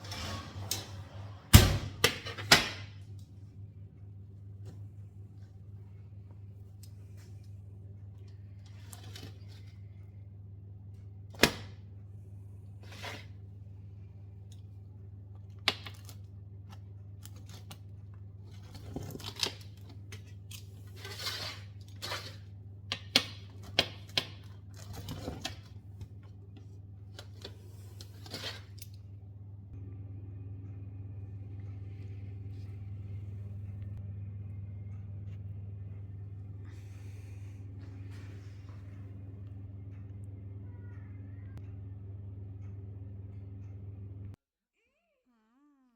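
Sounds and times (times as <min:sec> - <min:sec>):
steady low hum: 0:00.0 - 0:44.4.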